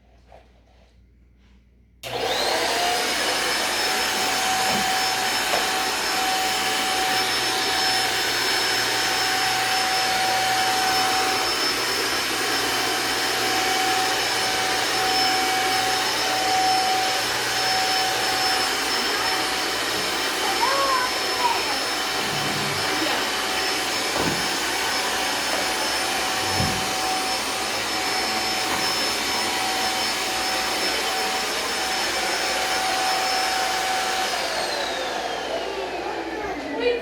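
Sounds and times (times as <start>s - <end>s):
vacuum cleaner motor whining: 2.0s - 37.0s.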